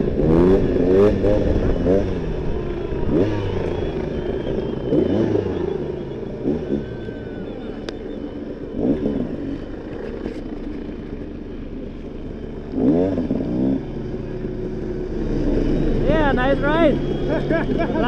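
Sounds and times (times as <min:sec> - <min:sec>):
dirt bike engine running: 0:00.0 - 0:18.0
engine throttle blips and revving: 0:00.0 - 0:18.0.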